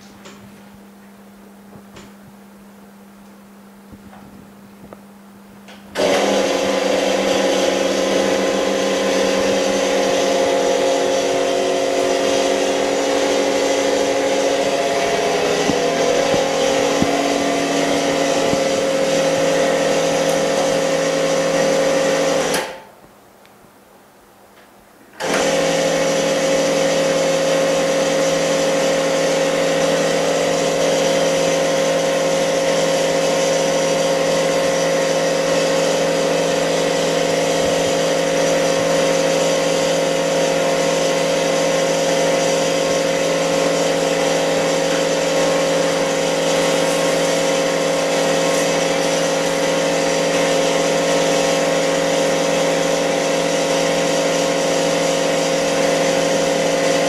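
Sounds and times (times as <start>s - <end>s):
electric motor humming: 5.9s - 22.7s, 25.2s - 57.0s.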